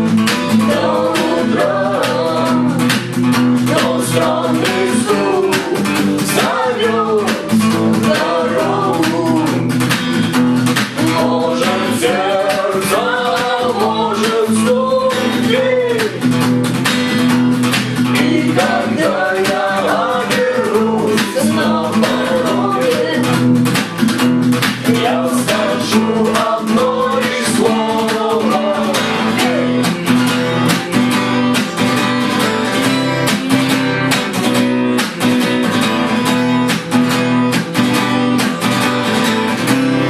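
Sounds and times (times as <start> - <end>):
melodic lead guitar line: 0.0 - 40.0
rock music: 0.0 - 40.0
steady drum beat: 0.0 - 40.0.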